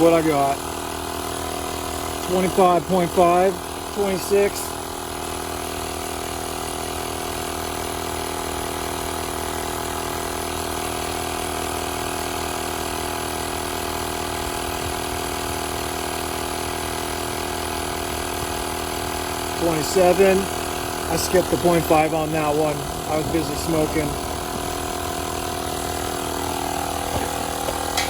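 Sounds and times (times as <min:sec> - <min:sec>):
tire inflator droning: 0:00.0 - 0:28.0.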